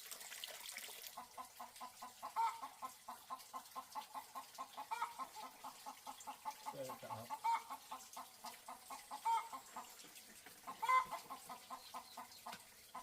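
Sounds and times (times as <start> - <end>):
chickens clucking: 1.2 - 13.0.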